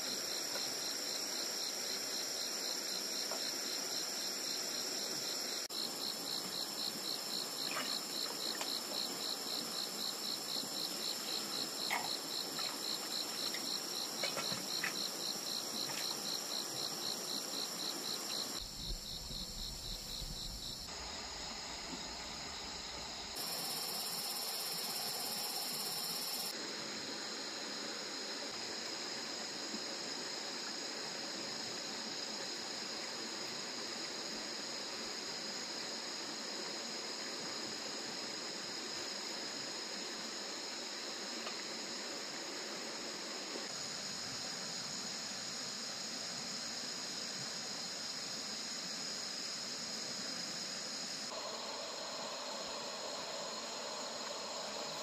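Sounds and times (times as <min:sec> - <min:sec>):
insects chirring at night: 0:00.0 - 0:55.0.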